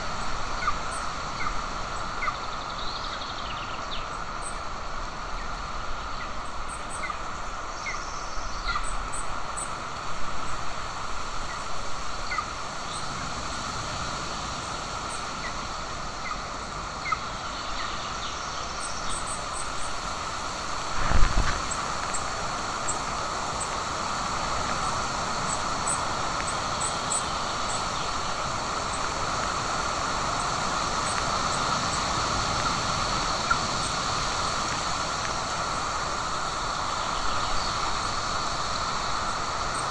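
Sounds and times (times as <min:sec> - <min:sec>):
wind hiss: 0:00.0 - 0:39.9.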